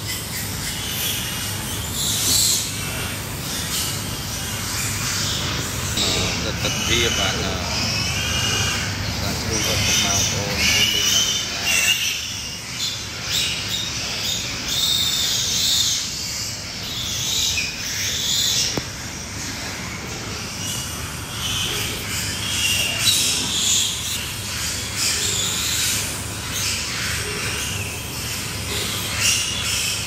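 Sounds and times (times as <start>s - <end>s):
piglets squealing: 0.0s - 30.0s.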